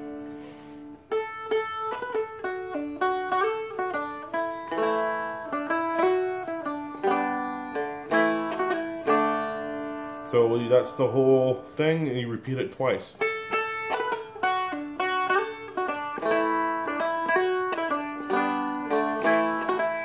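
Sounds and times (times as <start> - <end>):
picked string melody with drone: 0.0 - 11.6, 13.2 - 20.0
open strum: 0.0 - 20.0.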